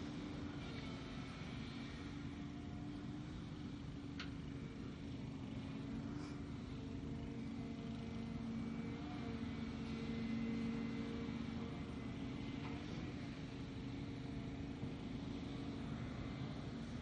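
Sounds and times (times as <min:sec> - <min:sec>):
excavator diesel engine hum: 0:00.0 - 0:17.0.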